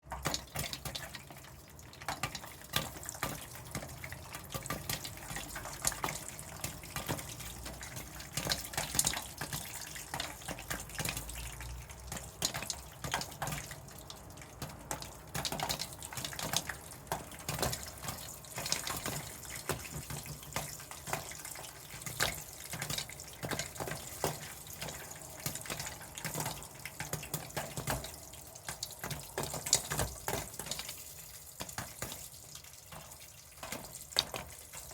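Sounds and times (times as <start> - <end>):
popcorn popping: 0.0 - 34.9.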